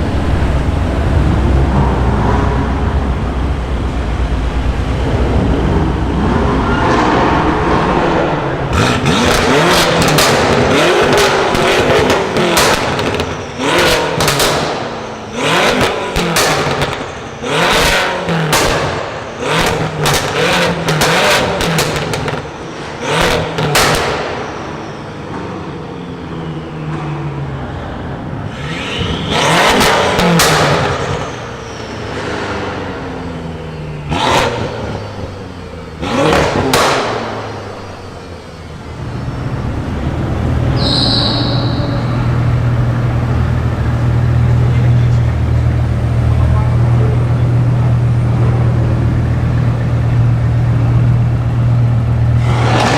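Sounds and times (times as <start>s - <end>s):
car engine revving in blips: 0.0s - 52.9s.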